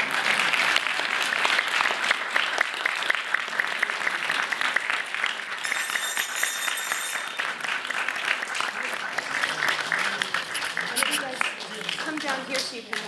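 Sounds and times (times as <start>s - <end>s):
audience applauding: 0.0s - 13.0s
close person clapping: 0.0s - 13.0s.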